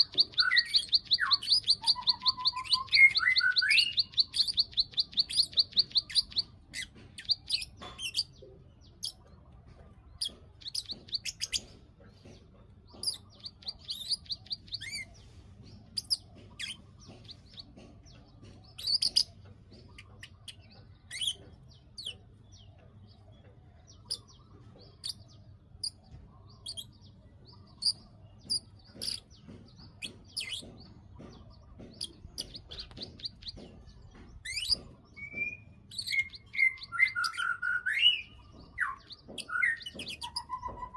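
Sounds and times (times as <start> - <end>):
bird sharp chirps: 0.0 - 9.4, 10.1 - 40.9
bird high clicking calls: 0.0 - 40.9.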